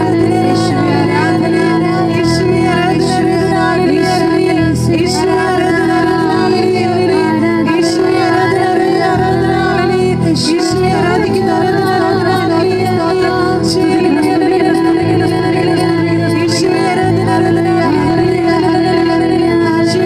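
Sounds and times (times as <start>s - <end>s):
sustained instrumental chords: 0.0s - 20.0s
woman singing a hymn: 0.0s - 20.0s.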